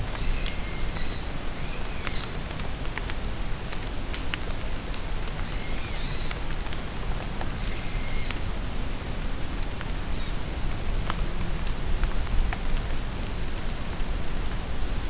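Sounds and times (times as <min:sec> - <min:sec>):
rain falling in forest: 0:00.0 - 0:15.0.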